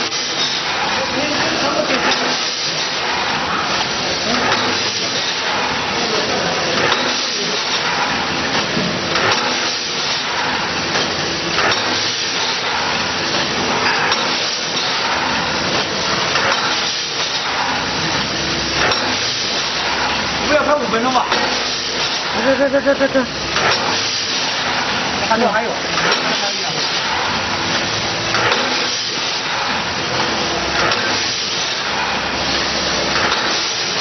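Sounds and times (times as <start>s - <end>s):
machine clunks and hisses: 0.0s - 22.6s, 23.3s - 34.0s
packaging machine din: 0.0s - 34.0s.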